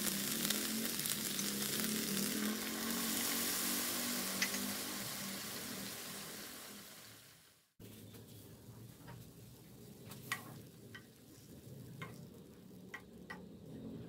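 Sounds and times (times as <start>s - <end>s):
chicken sizzling in a skillet: 0.0s - 7.8s, 8.8s - 12.9s.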